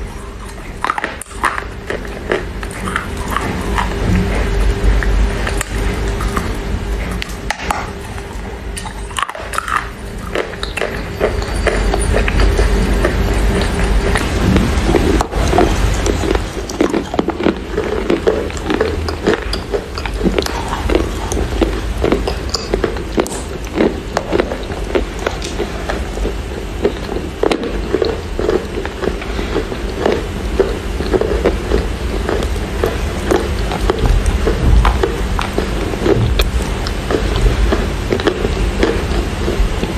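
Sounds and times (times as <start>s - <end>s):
crunching clay between teeth: 0.0s - 39.9s.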